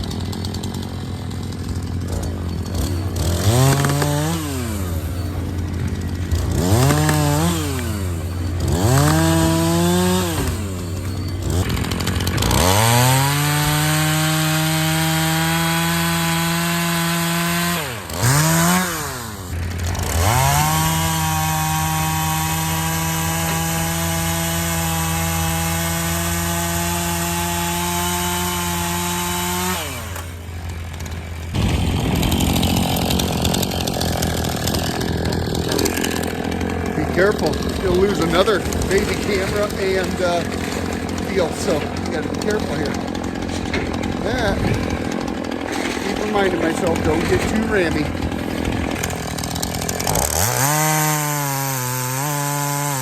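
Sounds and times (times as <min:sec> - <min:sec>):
chainsaw revving and cutting: 0:00.0 - 0:53.0.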